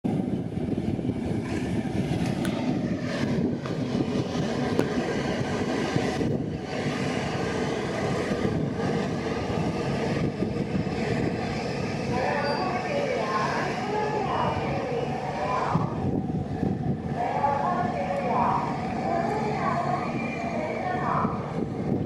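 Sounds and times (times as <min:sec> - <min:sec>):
ferry engines rumbling: 0:00.1 - 0:22.0.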